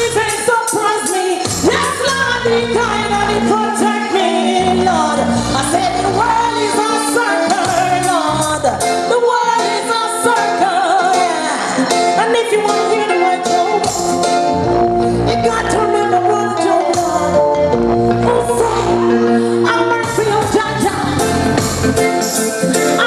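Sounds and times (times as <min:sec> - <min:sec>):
woman singing: 0:00.0 - 0:14.5, 0:15.2 - 0:23.0
reggae backing track: 0:00.0 - 0:23.0.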